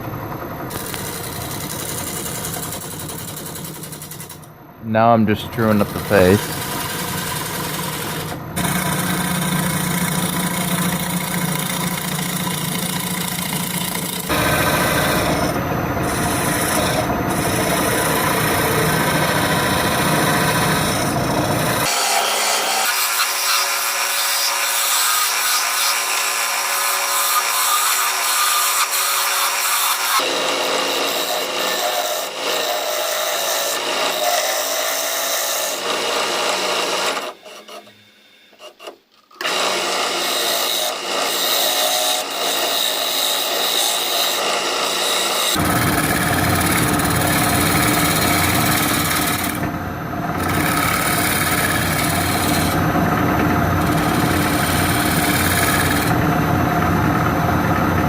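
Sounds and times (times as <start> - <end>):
steady lathe hum: 0.0 - 58.0
lathe tool scraping wood: 0.7 - 58.0.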